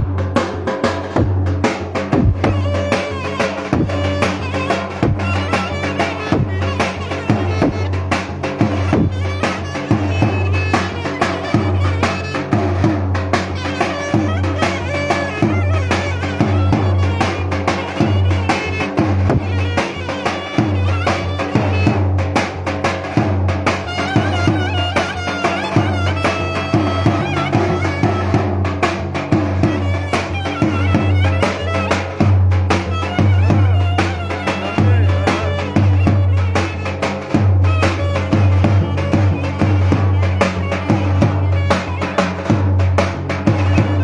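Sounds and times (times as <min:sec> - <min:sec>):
drum beats: 0:00.0 - 0:44.0.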